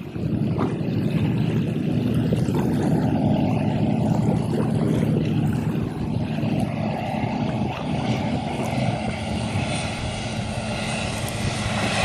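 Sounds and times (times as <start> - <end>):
light aircraft propeller droning: 0.0 - 12.0.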